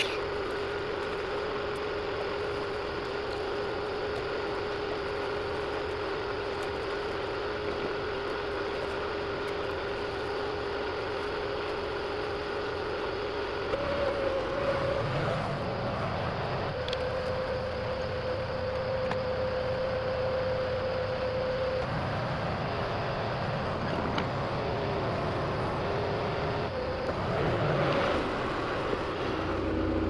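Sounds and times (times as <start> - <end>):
heavy equipment engine running: 0.0 - 30.0.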